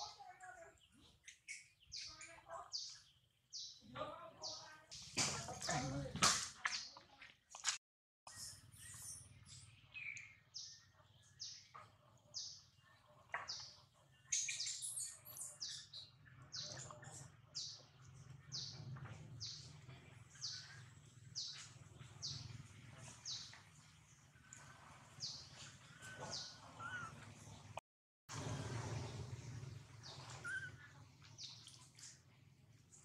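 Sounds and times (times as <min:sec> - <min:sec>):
bird chirping: 0:00.0 - 0:06.1, 0:08.3 - 0:23.6, 0:24.5 - 0:27.6, 0:29.9 - 0:32.2.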